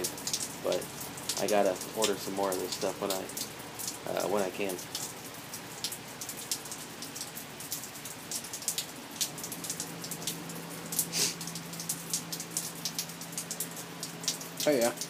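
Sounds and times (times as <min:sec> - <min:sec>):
faint steady hum: 0:00.0 - 0:15.0
rain pattering: 0:00.0 - 0:15.0
raindrops ticking: 0:00.0 - 0:15.0.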